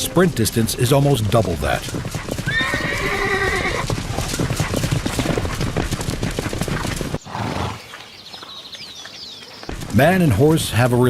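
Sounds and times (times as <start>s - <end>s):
horses galloping hoofbeats: 0.0s - 11.0s.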